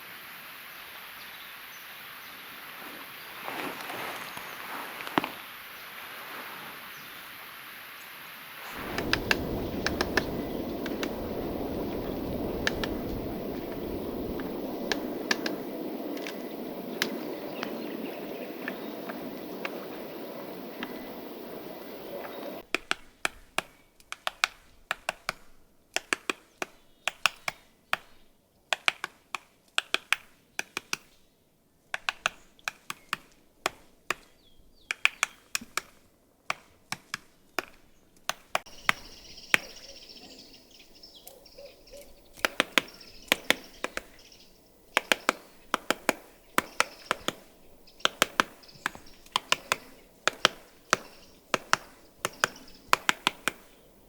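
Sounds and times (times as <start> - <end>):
woodpecker tapping on a cone: 8.8 - 31.2, 31.9 - 54.0.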